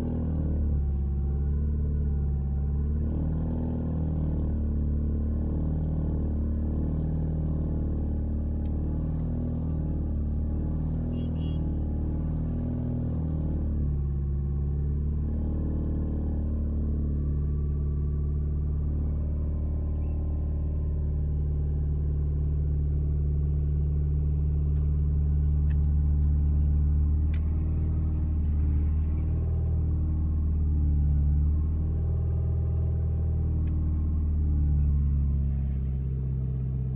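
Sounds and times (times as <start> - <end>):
car low drone: 0.0 - 36.9.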